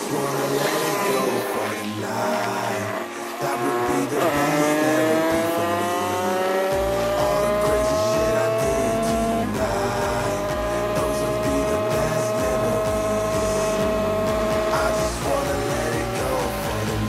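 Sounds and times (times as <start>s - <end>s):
music playing: 0.0s - 17.0s
vehicle engine accelerating: 0.0s - 17.0s.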